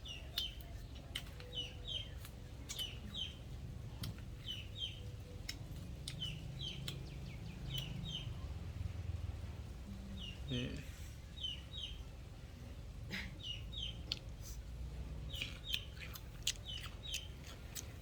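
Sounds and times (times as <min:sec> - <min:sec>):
bird chirping: 0:00.0 - 0:12.2, 0:13.2 - 0:14.3, 0:15.2 - 0:18.0
low background rumble: 0:00.0 - 0:18.0.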